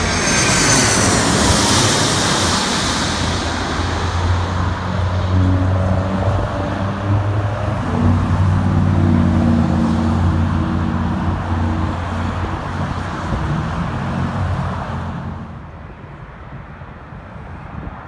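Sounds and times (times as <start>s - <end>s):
cars passing: 0.0s - 16.6s.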